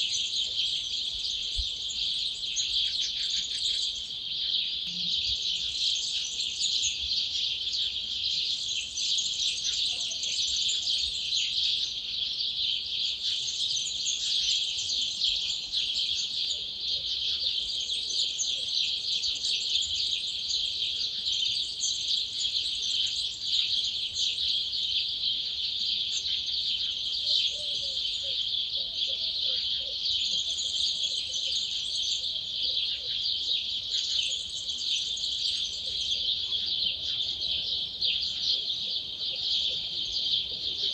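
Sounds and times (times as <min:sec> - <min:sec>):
many birds twittering: 0:00.0 - 0:40.9.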